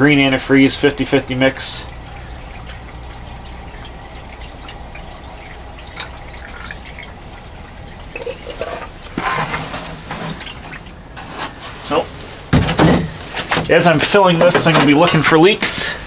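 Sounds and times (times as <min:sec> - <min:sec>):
liquid trickling and splashing: 0:00.2 - 0:15.6.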